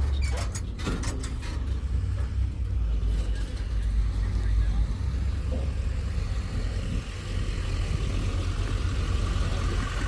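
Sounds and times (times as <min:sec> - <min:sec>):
vehicle engine low rumble: 0:00.0 - 0:10.0.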